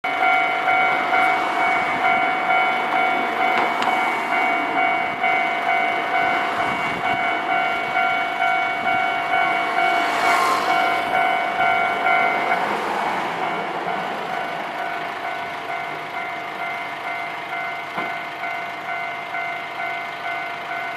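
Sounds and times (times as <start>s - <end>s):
level crossing alarm ringing: 0.0s - 20.9s.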